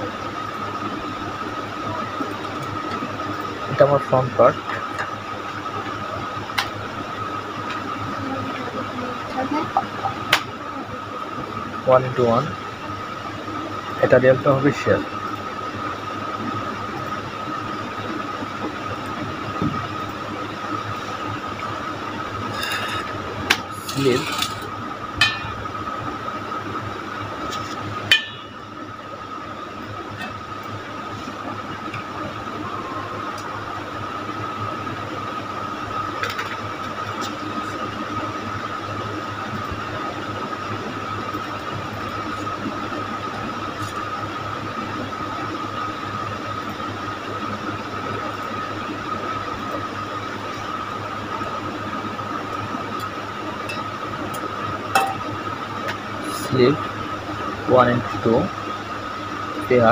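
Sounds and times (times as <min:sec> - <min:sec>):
high-pitched whine: 0:00.0 - 0:59.9
steady background hum: 0:00.0 - 0:59.9.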